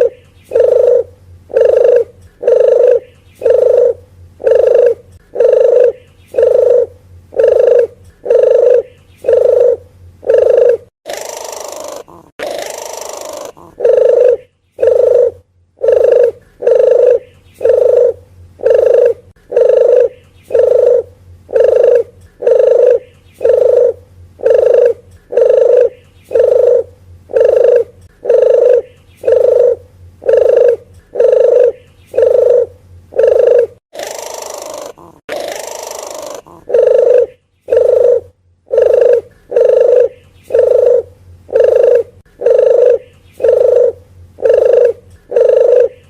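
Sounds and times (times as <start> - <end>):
dove cooing: 0.0 - 46.0
hoarse dove call: 0.0 - 46.0.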